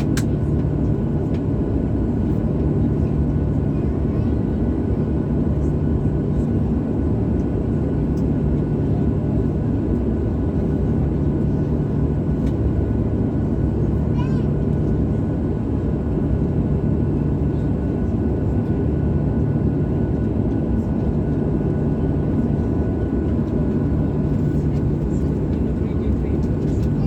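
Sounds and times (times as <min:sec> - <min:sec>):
airplane cabin engine rumble: 0:00.0 - 0:27.0
constant hum: 0:00.0 - 0:27.0.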